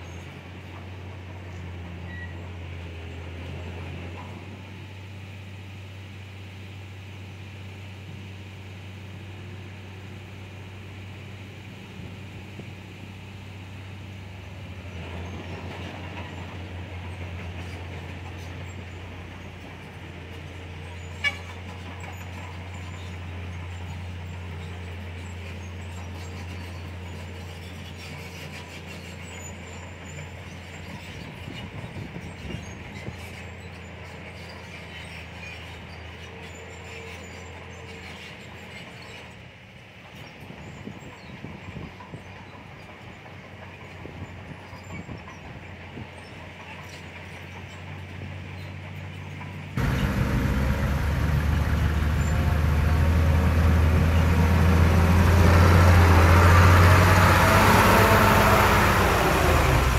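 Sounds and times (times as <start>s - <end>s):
bulldozer diesel engine droning: 0.0s - 41.1s, 42.6s - 59.9s.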